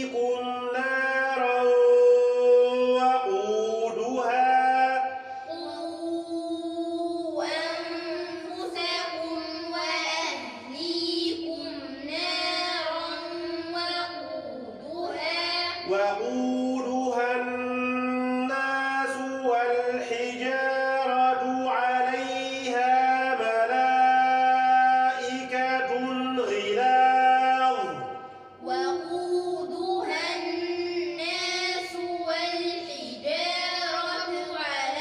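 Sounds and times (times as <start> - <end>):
children's voices reciting: 0.0 - 35.0
melodic chanted recitation: 0.0 - 35.0.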